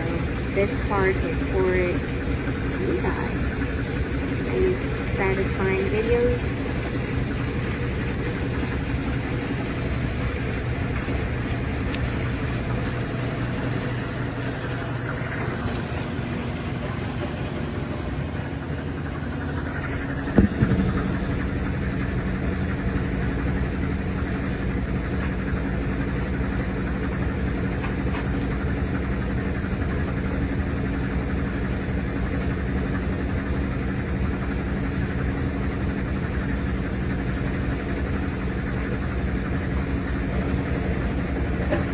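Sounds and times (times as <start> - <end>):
washing machine spinning hum: 0.0 - 41.9.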